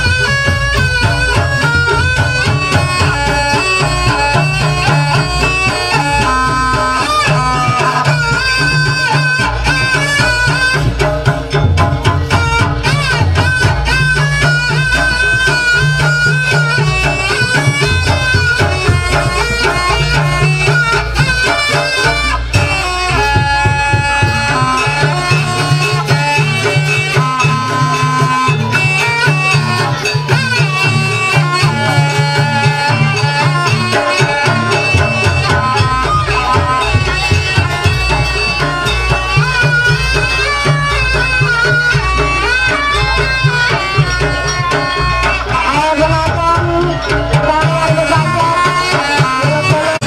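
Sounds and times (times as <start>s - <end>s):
fast continuous drumming: 0.0s - 50.0s
reedy wind instrument melody: 0.0s - 50.0s.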